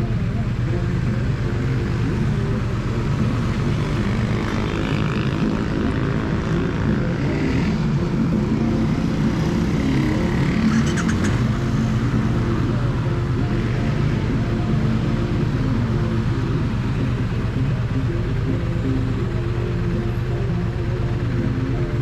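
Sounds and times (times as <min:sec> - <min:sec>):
motorcycle engine and exhaust running: 0:00.0 - 0:22.0.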